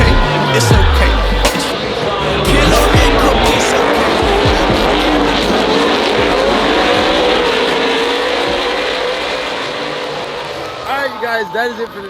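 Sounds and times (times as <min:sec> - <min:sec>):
race vehicle engine revving: 0:00.0 - 0:11.3.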